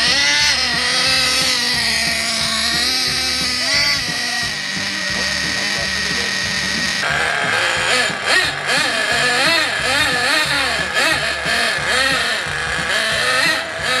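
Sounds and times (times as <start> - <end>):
toy snowmobile motor revving: 0.0 - 14.0.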